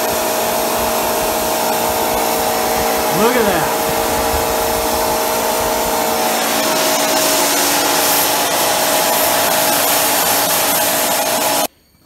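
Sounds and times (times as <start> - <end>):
humming tones: 0.0 - 11.7
propane burner roaring: 0.0 - 11.7.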